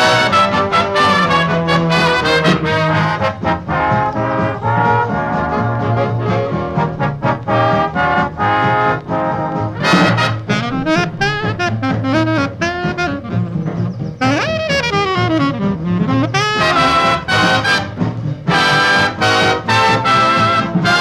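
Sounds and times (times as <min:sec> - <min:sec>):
big band swing music: 0:00.0 - 0:21.0.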